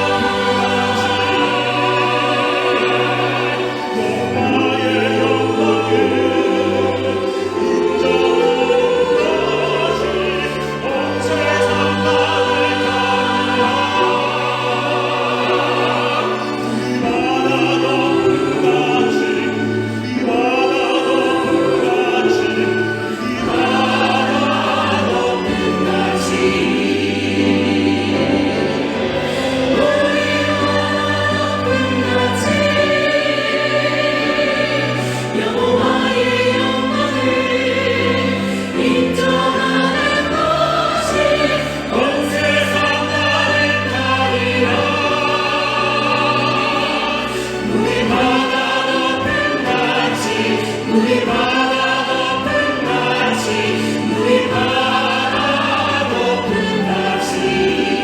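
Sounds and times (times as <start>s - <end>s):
slow sacred ensemble music: 0.0s - 58.0s.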